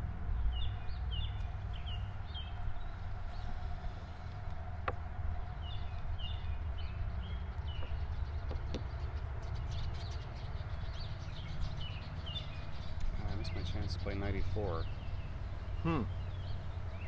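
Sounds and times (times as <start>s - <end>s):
low outdoor rumble: 0.0s - 17.0s
small birds chirping: 0.3s - 17.0s.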